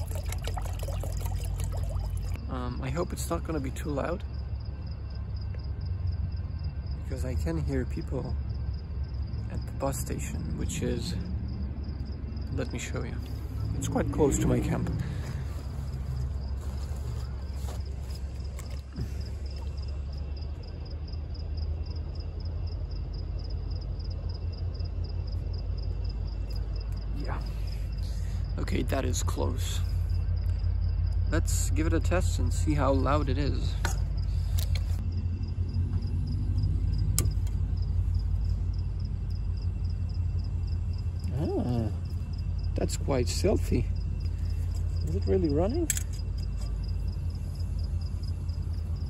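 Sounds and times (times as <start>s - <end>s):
crickets chirping: 0.0s - 49.0s
steady low rumble: 0.0s - 49.0s.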